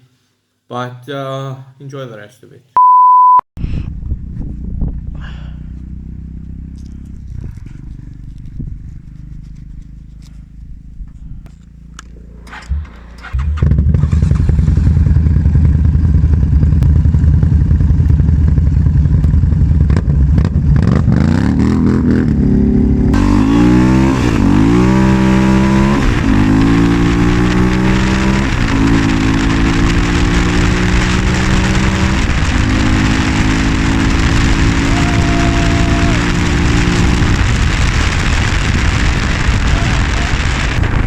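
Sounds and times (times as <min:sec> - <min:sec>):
quad bike engine revving: 0:03.8 - 0:41.0.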